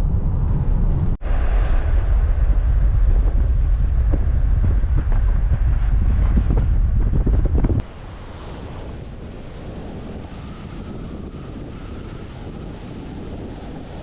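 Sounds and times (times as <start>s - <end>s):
moving vehicle rumble: 0.0s - 14.0s
wind buffeting microphone: 0.0s - 14.0s.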